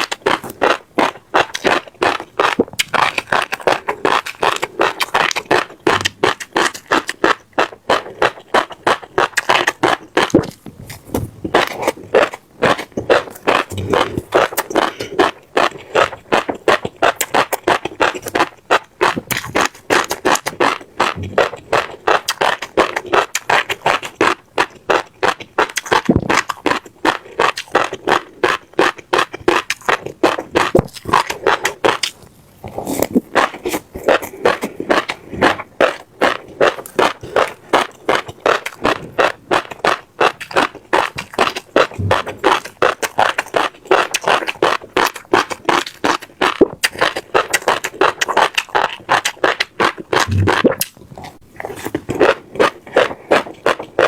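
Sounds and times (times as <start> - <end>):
chewing crunchy seeds: 0.0 - 54.0.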